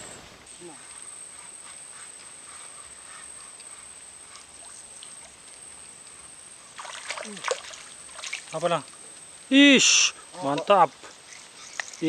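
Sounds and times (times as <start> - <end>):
low hiss: 0.0 - 12.0
soft scattered ticks: 0.7 - 6.9, 7.6 - 9.4, 10.4 - 12.0.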